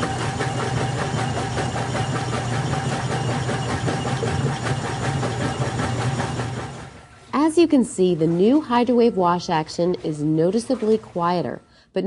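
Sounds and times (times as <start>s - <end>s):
washing machine agitating: 0.0s - 11.7s.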